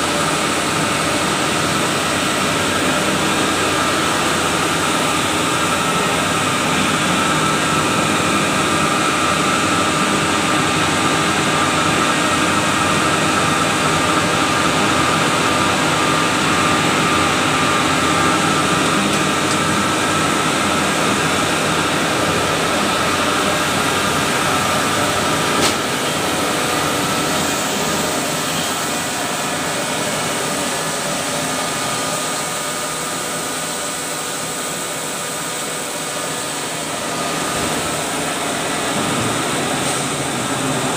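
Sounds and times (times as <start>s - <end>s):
extrusion machinery running: 0.0s - 40.9s.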